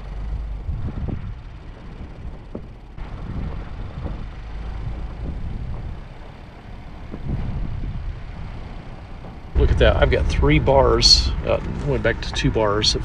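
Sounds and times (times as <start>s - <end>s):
vehicle rumbling on dirt road: 0.0s - 13.0s.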